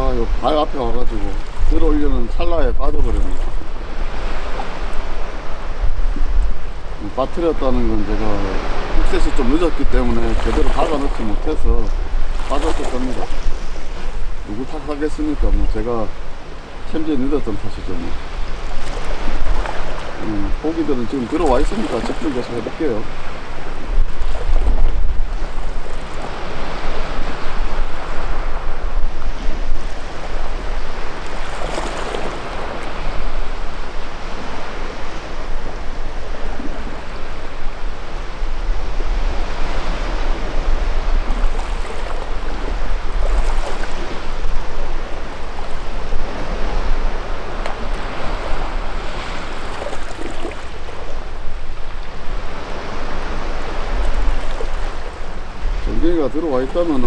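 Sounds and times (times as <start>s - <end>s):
waves washing on rocky shore: 0.0s - 57.0s
wind rumbling on microphone: 0.0s - 57.0s.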